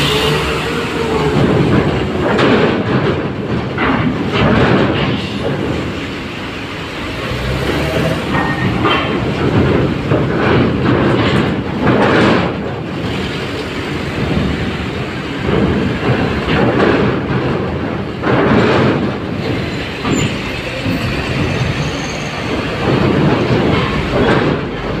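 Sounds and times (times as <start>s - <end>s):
metal ramp clanking and rattling: 0.0s - 25.0s
truck engines running: 0.0s - 25.0s.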